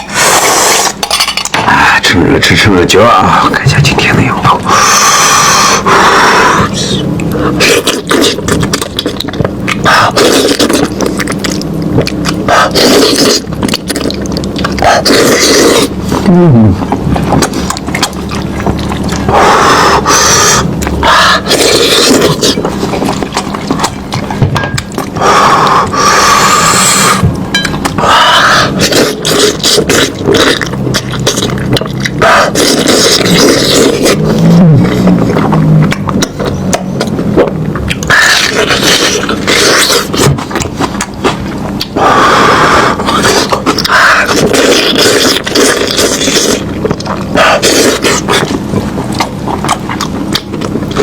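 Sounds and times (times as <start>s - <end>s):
chewing and tearing meat: 4.6s - 51.0s.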